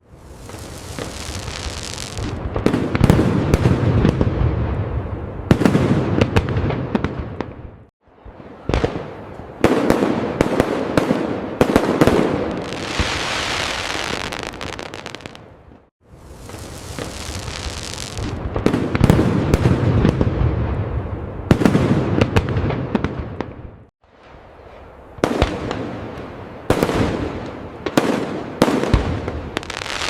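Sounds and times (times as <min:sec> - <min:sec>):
fireworks crackling: 0:00.0 - 0:07.5, 0:08.8 - 0:23.5, 0:24.2 - 0:30.0
fireworks cracking: 0:00.2 - 0:07.6, 0:08.8 - 0:15.6, 0:16.2 - 0:23.6, 0:26.7 - 0:30.0
fireworks booming: 0:00.2 - 0:30.0.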